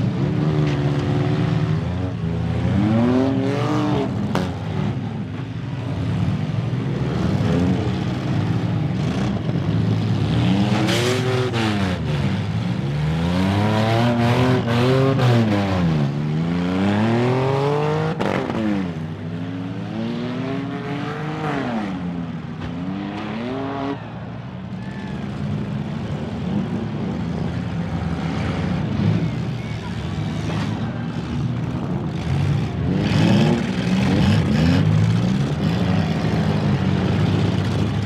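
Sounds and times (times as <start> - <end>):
car engines revving hard: 0.0 - 38.0.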